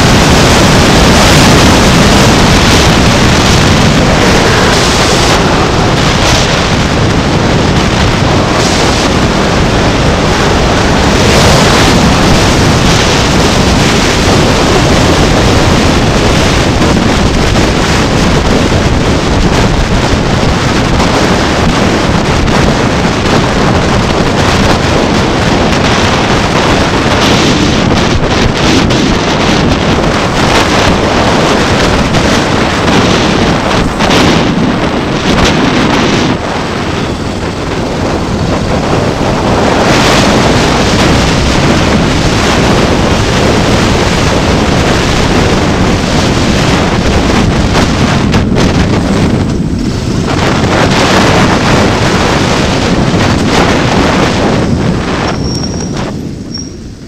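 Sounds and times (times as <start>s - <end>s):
low road rumble: 0.0s - 57.0s
wind buffeting microphone: 0.0s - 57.0s.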